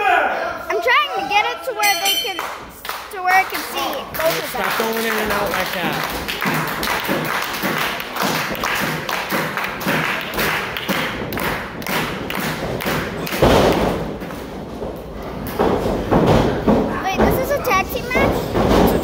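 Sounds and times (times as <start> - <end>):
rhythmic clapping: 0.8 - 19.0.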